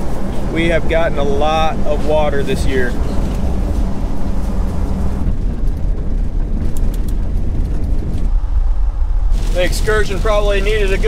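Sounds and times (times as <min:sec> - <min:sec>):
vehicle rumble on gravel road: 0:00.0 - 0:11.0.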